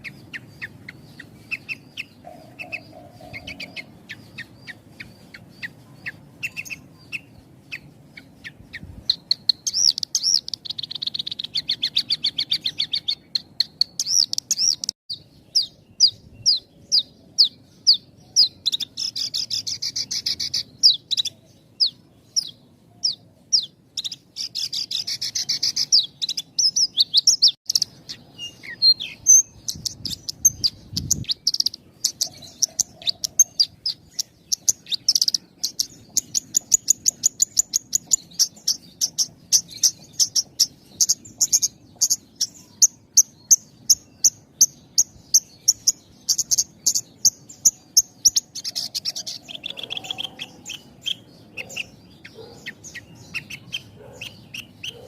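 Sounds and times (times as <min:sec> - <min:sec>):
lark singing rapid chirps and trills: 0:00.0 - 0:55.0.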